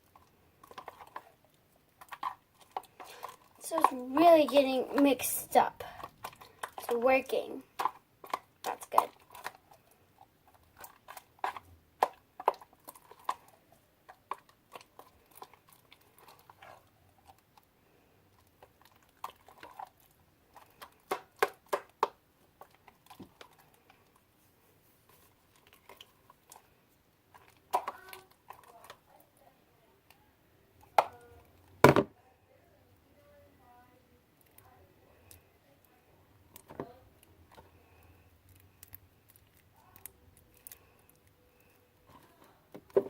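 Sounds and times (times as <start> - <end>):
slime squelching while stirred: 0.0 - 30.2, 34.2 - 43.0.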